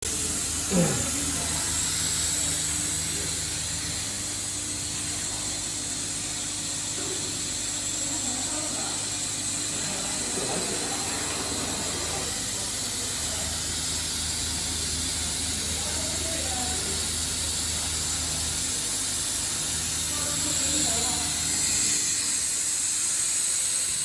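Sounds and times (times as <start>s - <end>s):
low machine hum: 0.0s - 22.6s.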